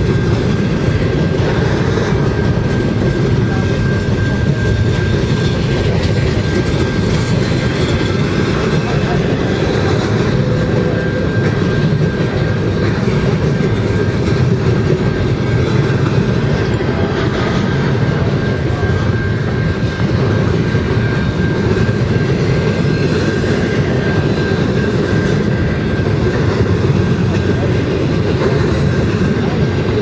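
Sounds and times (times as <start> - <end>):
steel wheels rumbling on rail: 0.0 - 30.0.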